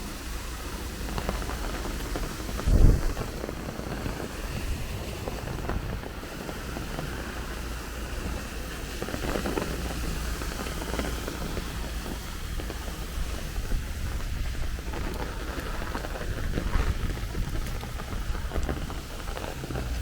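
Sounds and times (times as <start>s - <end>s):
heavy rain falling: 0.0s - 20.0s
wind buffeting microphone: 0.0s - 20.0s.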